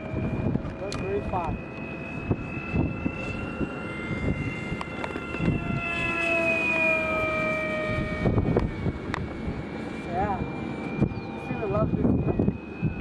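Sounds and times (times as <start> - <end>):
model airplane motor whining: 0.0 - 13.0
wind rumbling on microphone: 0.0 - 13.0.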